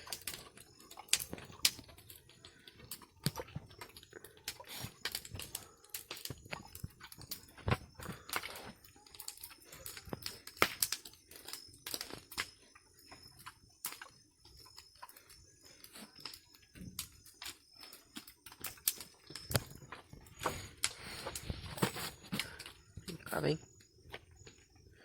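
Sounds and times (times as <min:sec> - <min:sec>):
pig chewing and crunching food: 0:00.0 - 0:25.0.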